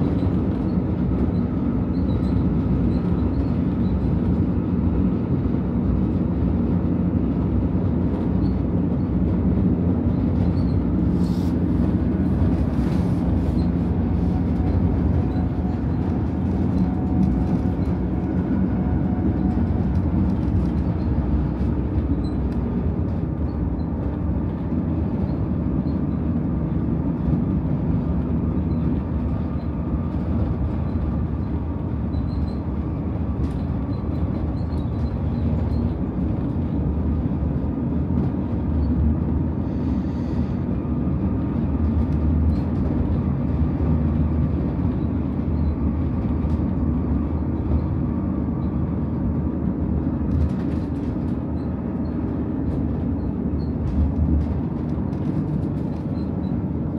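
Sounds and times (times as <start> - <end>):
train wheels rumbling: 0.0 - 56.9.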